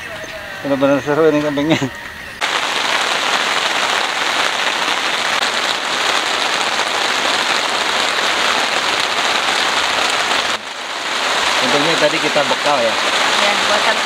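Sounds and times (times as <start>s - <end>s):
heavy rain on a tent: 2.4s - 14.0s.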